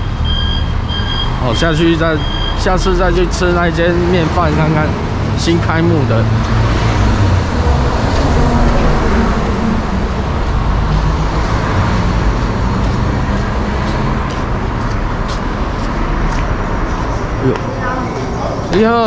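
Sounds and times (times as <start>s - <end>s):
road traffic rumble: 0.0s - 19.0s
vehicle engine hum: 0.0s - 19.0s.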